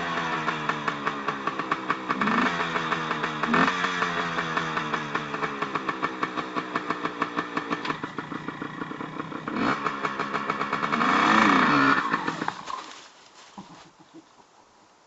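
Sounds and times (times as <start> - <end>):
two-stroke engine running and revving: 0.0 - 12.8.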